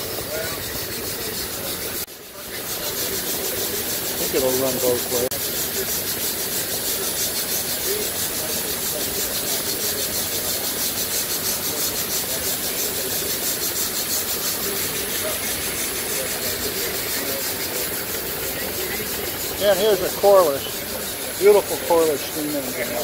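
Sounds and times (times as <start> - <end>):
steam engine exhaust hissing: 0.0 - 23.0.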